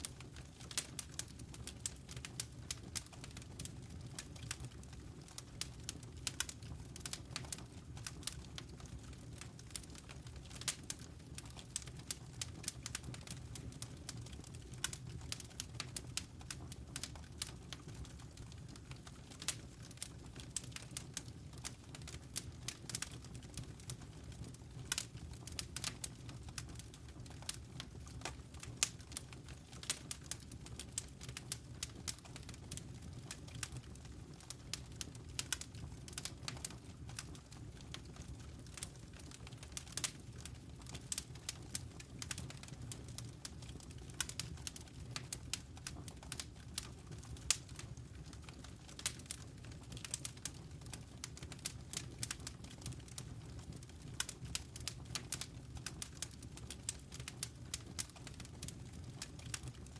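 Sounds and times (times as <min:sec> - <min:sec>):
fire snaps and pops: 0:00.0 - 0:59.9
low rumble of burning fire: 0:00.0 - 0:59.9.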